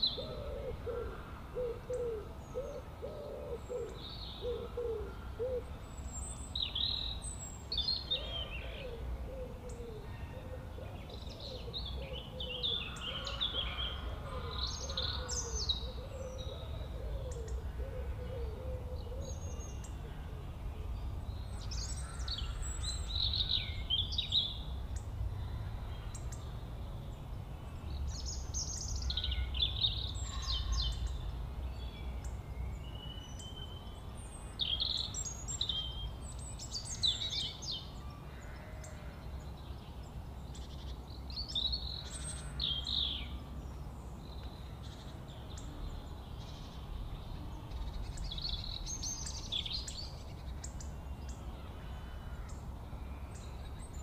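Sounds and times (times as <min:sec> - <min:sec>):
small birds singing: 0:00.0 - 0:54.0.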